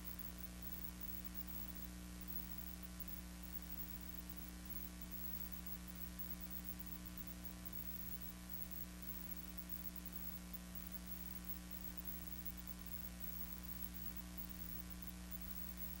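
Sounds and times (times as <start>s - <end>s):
background hiss: 0.0s - 16.0s
electrical hum: 0.0s - 16.0s.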